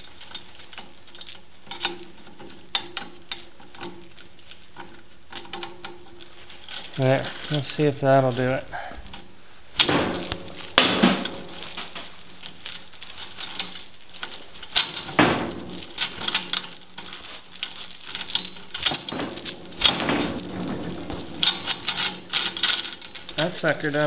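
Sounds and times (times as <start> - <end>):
chain rattling and clanking: 0.0 - 24.0.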